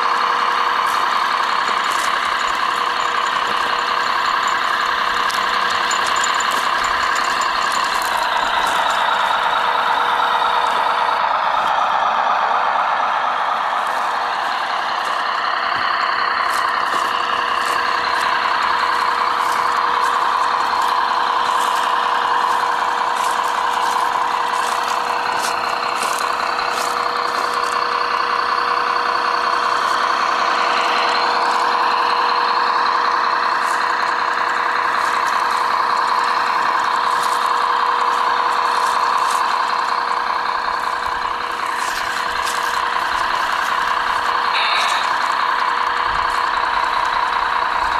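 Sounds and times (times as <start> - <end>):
model truck motor whine: 0.0 - 47.9.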